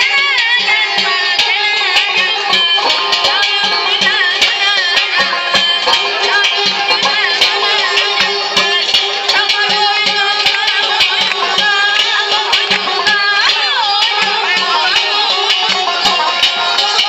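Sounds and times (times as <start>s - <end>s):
ornamented sliding melody: 0.0s - 17.0s
steady drum beat: 0.0s - 17.0s.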